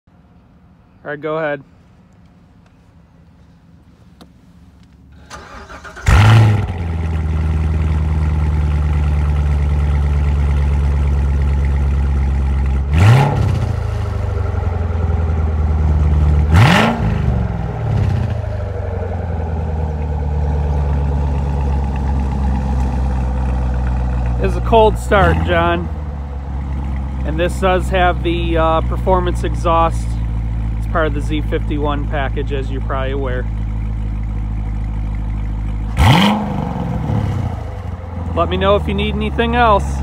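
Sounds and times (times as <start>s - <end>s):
car engine idling and revving: 1.8s - 40.0s
car engine cranking: 4.8s - 40.0s.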